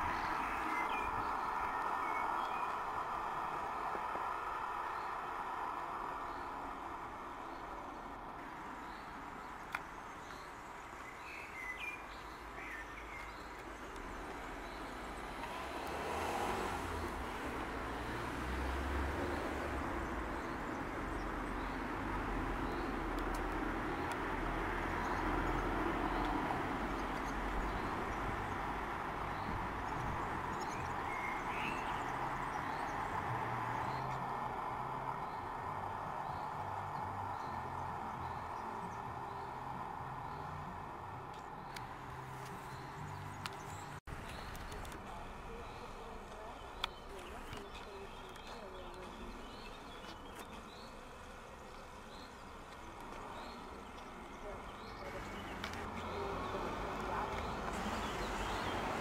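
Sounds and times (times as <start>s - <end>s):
distant traffic: 0.0s - 59.0s.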